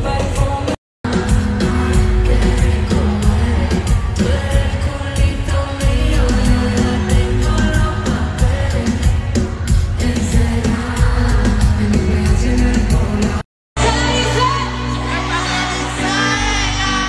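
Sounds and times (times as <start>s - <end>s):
loud amplified music with beat: 0.0s - 17.0s
person singing: 0.0s - 17.0s.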